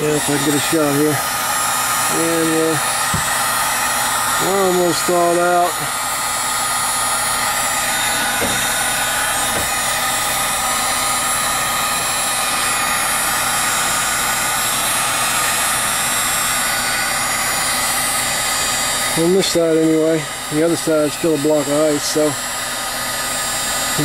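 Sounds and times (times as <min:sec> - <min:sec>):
heat gun blowing: 0:00.0 - 0:24.0.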